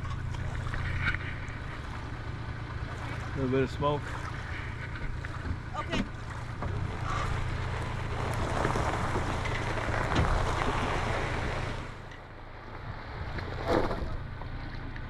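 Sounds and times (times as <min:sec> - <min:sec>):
rush of wind and water: 0:00.0 - 0:12.1
boat engine running: 0:00.0 - 0:15.0.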